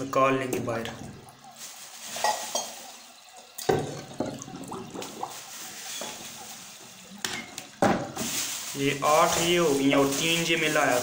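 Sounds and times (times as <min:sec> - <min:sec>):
dry clay soaking up water: 0:00.0 - 0:11.0
water sloshing and dripping: 0:00.0 - 0:11.0.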